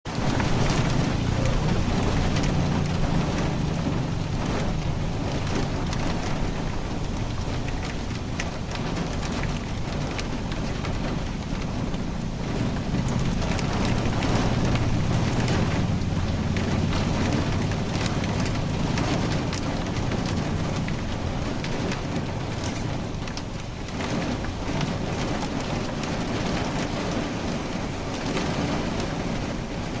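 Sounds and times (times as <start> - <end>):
heavy rain pouring: 0.0 - 30.0
thunder rumbling: 0.1 - 30.0.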